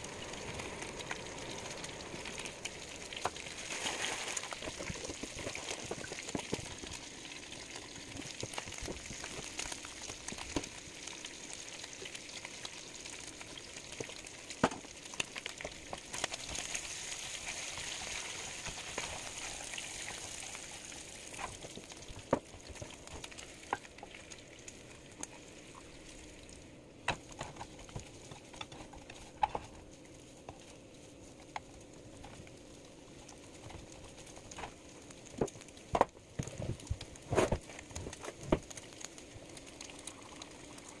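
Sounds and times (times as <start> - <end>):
bacon sizzling in a frying pan: 0.0 - 41.0.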